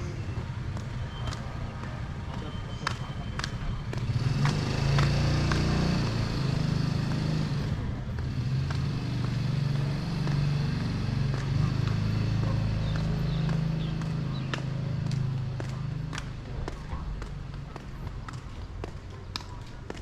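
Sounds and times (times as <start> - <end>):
vehicle engine running: 2.2 - 20.0.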